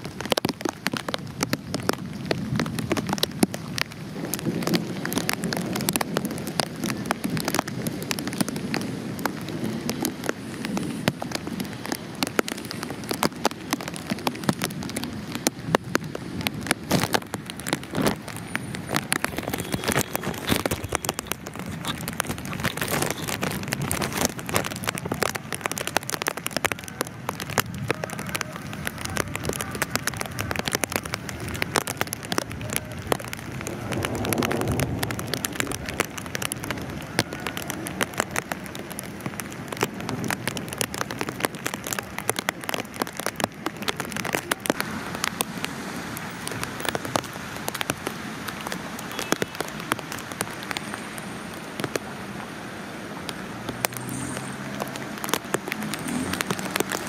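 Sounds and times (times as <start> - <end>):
heavy rain drops ticking: 0.0 - 57.0
rush of wind: 0.0 - 57.0.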